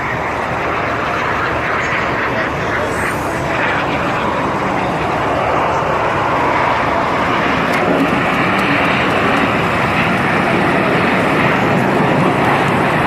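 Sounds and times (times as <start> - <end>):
aircraft engine roar: 0.0 - 13.0.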